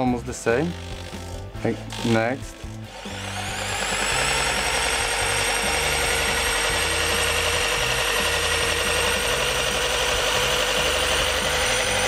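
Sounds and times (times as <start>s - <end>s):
hammer drill motor whine: 0.7s - 12.0s.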